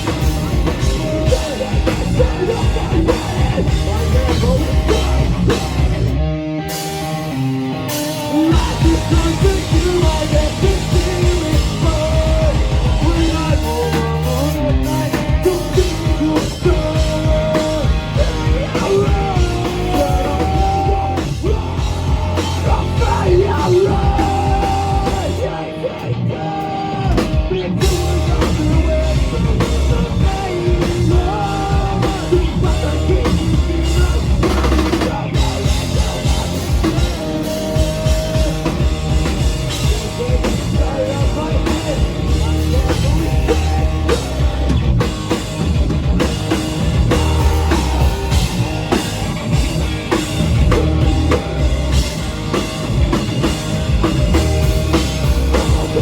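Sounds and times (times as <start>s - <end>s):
person singing: 0.0s - 5.8s, 7.9s - 44.8s, 46.2s - 49.1s
live rock band playing: 0.0s - 56.0s.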